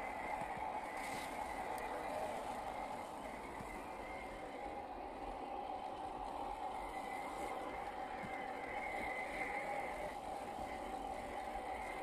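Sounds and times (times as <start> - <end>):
toy car motor and gears whining: 0.0 - 12.0.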